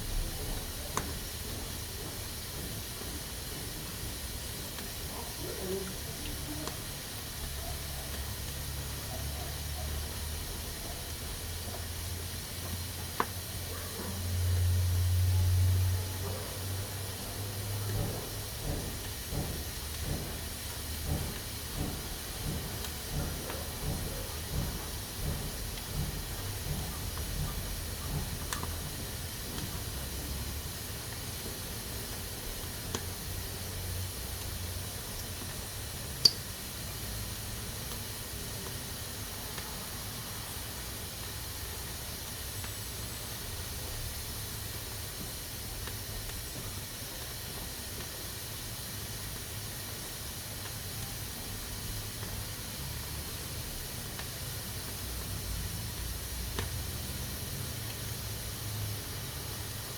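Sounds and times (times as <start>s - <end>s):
pressure cooker hissing: 0.0s - 59.9s.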